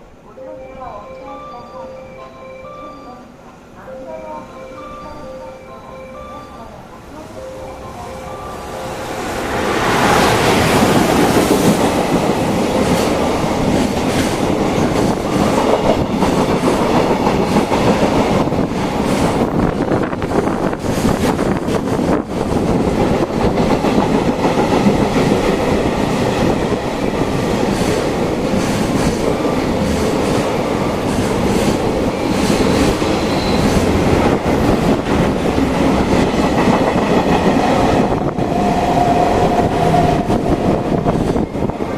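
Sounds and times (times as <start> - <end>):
train wheels rolling on rails: 7.3 - 41.9.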